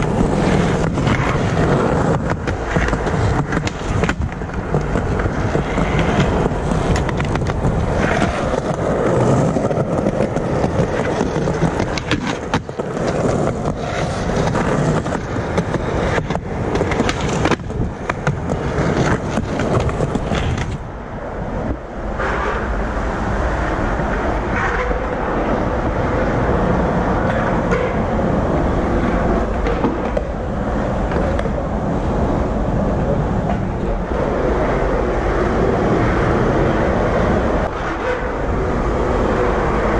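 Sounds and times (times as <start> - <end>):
skateboard clacks: 0.0 - 39.9
skateboard wheels rolling: 0.0 - 39.9.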